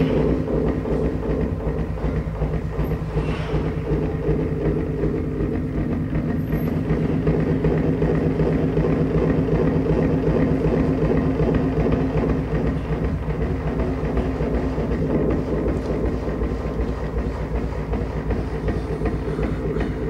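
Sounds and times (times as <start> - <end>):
fast even rattle: 0.0 - 20.0
low mechanical drone: 0.0 - 20.0.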